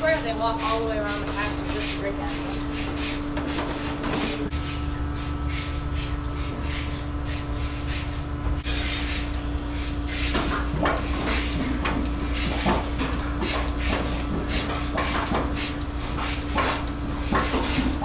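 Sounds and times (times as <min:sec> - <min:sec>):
pulsators hissing clicks: 0:00.0 - 0:04.5, 0:05.2 - 0:18.0
vacuum pump hum: 0:00.0 - 0:18.0.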